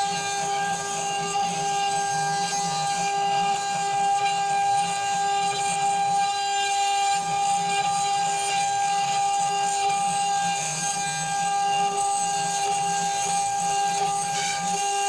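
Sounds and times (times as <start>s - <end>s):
cutter milling brass hiss: 0.0s - 15.0s
router spindle whine: 0.0s - 15.0s.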